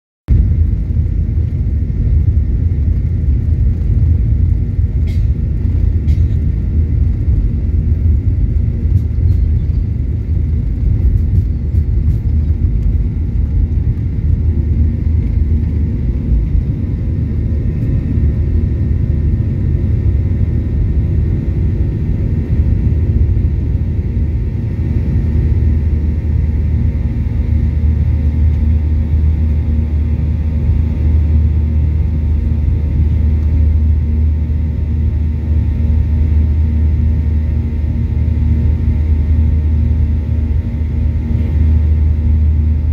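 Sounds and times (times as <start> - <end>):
jet engines rumbling: 0.3 - 42.9.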